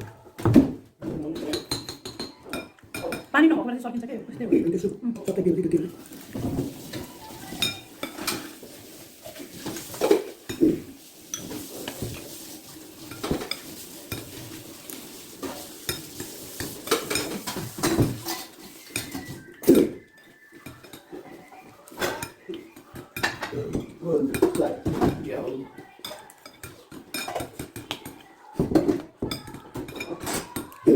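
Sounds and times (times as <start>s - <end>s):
utensils clinking on plates: 1.3s - 3.3s, 5.2s - 30.9s.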